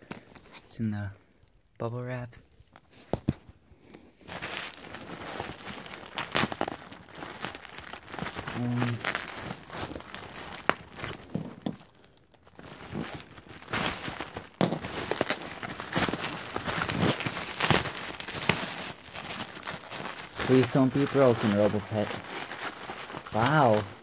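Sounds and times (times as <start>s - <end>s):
bubble wrap crinkling: 2.6s - 24.0s.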